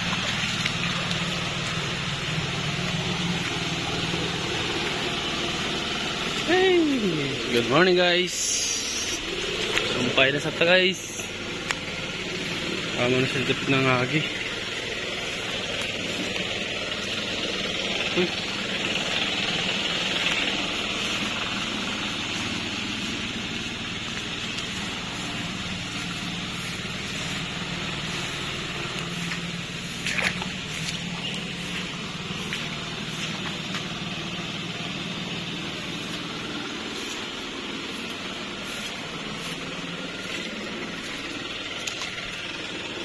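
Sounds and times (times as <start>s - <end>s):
low engine drone: 0.0s - 43.0s.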